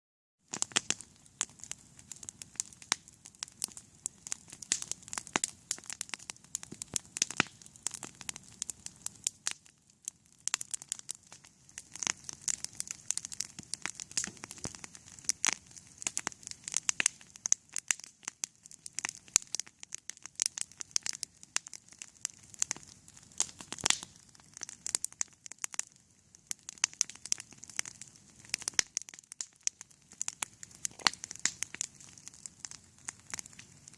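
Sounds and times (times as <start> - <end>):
campfire crackling and popping: 0.4 - 33.9.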